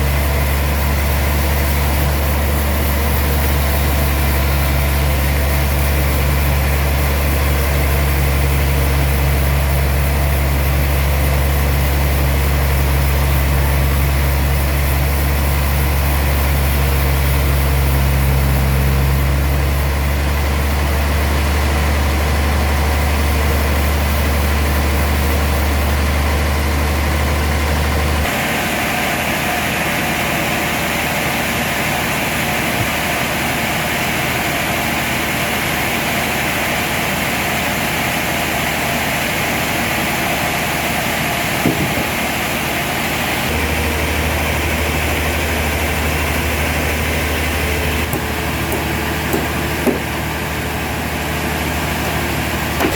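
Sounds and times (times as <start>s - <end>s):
sawmill machinery deep hum: 0.0s - 52.9s.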